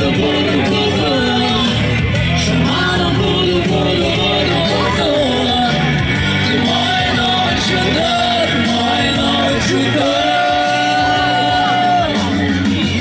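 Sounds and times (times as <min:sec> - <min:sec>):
instrumental backing: 0:00.0 - 0:13.0
person singing: 0:00.0 - 0:13.0.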